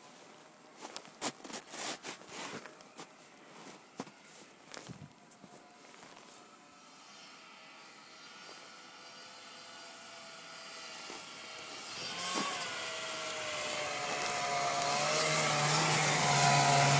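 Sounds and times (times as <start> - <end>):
snowmobile engine approaching: 0.0 - 16.9.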